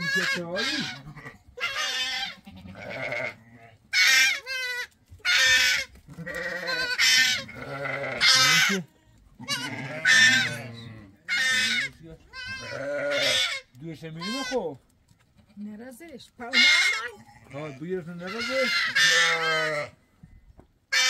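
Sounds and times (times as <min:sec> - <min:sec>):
goats bleating: 0:00.0 - 0:14.8, 0:16.5 - 0:20.0.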